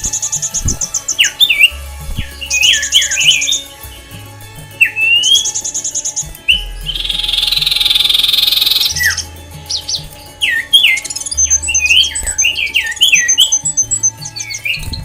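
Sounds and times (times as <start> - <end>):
background music with low bass: 0.0 - 15.0
birds squawking: 0.0 - 15.0
harsh bird chatter: 0.0 - 15.0.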